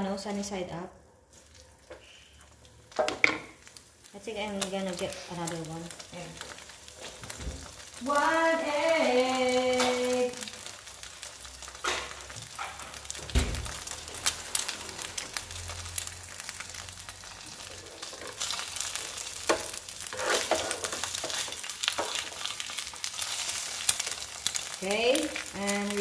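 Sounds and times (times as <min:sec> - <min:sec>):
egg sizzling and popping: 0:01.3 - 0:26.0.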